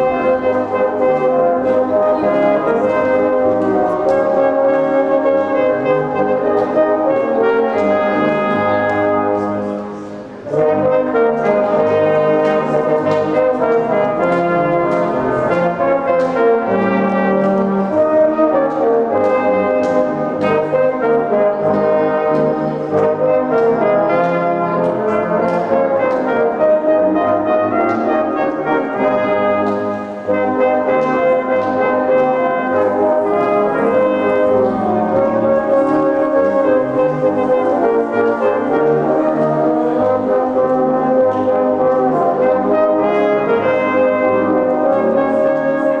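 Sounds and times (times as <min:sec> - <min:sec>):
brass band playing: 0:00.0 - 0:46.0.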